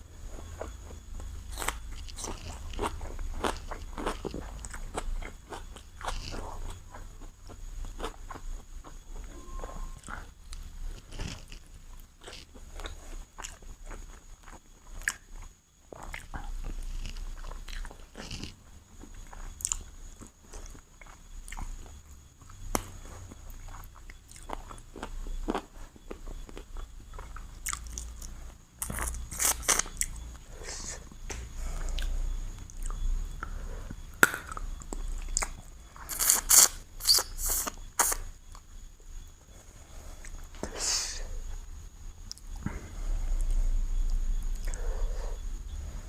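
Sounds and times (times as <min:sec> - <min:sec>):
person chewing food: 0:00.2 - 0:40.8, 0:43.3 - 0:45.8.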